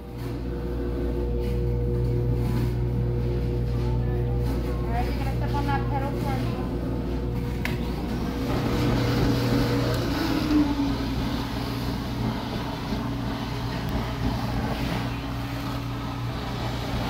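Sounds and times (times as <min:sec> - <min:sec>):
blower motor humming: 0:00.0 - 0:17.0.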